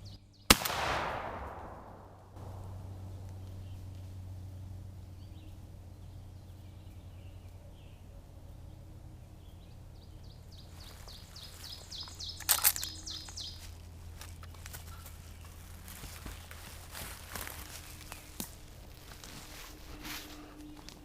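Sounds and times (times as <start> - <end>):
songbird singing: 0.0 - 21.0
steady low hum: 0.0 - 21.0.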